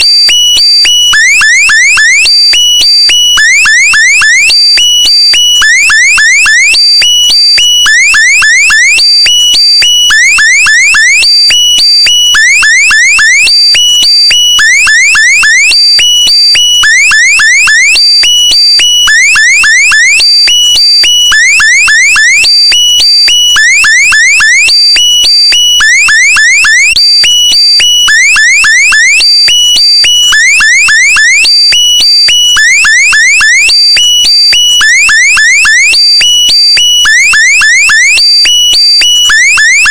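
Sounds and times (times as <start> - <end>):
electronic alarm-like chirps: 0.0 - 39.9.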